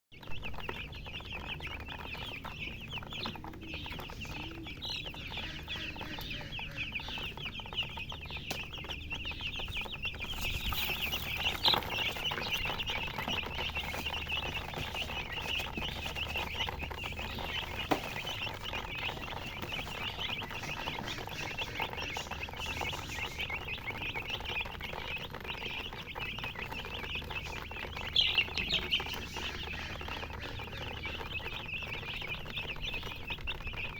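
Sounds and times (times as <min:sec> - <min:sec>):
baby chicks peeping: 0:00.1 - 0:33.9.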